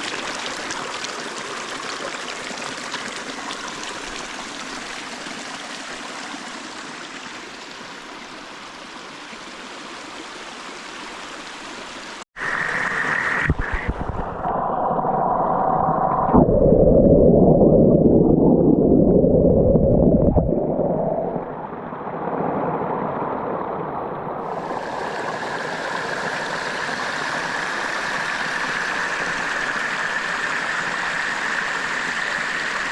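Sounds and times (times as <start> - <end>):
running water rushing: 0.0 - 16.4, 20.1 - 32.9.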